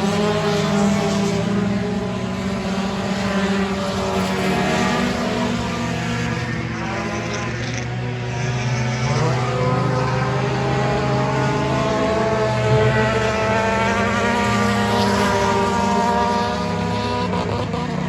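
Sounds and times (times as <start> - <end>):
race car engines: 0.0 - 18.0.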